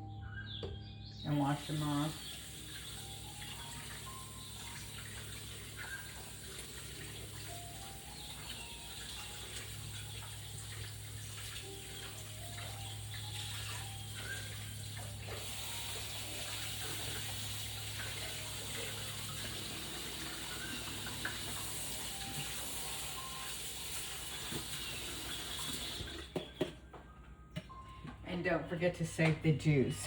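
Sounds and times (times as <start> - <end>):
tap water running into sink: 1.4 - 26.7.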